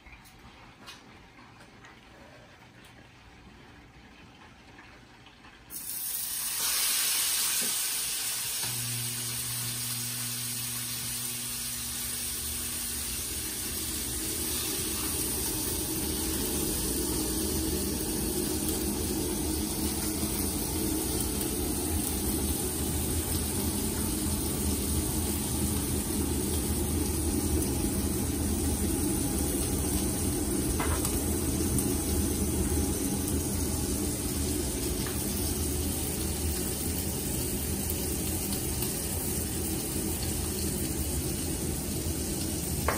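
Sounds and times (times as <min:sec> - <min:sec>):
steak sizzling in a skillet: 0:05.7 - 0:42.9.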